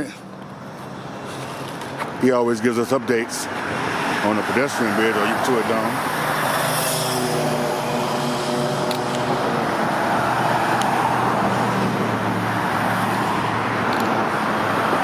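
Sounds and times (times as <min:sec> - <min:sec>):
tyre and road noise: 0:00.0 - 0:15.0
vehicle engine hum: 0:00.0 - 0:15.0.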